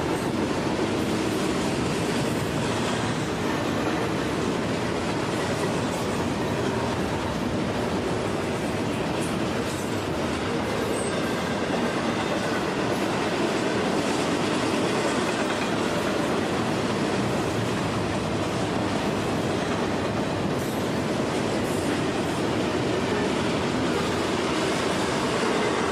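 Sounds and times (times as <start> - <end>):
freight train wheels on rail: 0.0 - 25.9.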